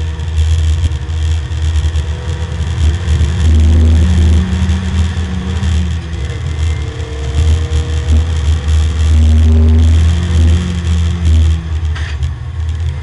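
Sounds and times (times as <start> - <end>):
race car engine droning: 0.0 - 13.0.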